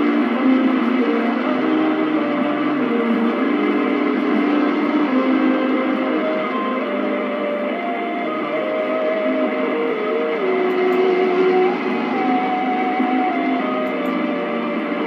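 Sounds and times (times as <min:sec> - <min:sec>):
music over am radio: 0:00.0 - 0:15.0
radio static hiss: 0:00.0 - 0:15.0.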